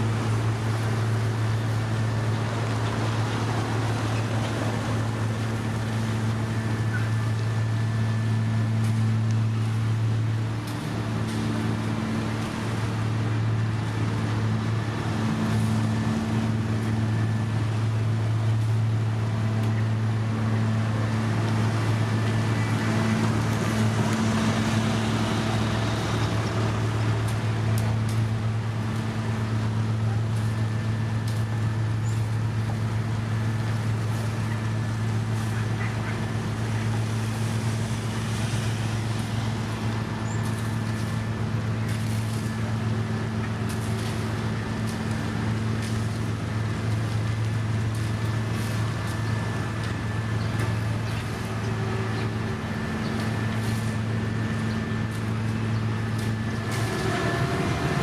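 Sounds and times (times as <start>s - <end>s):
diesel machinery engine hum: 0.0s - 58.0s.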